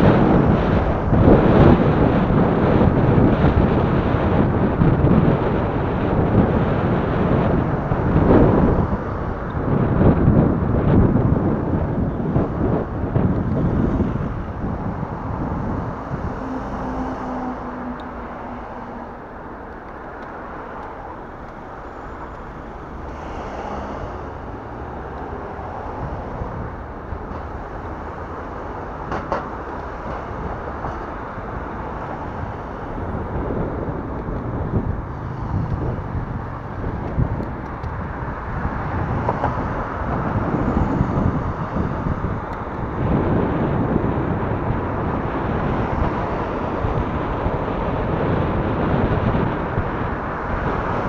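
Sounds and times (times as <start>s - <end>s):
slow road traffic: 0.0s - 51.0s
wind on microphone: 0.0s - 51.0s.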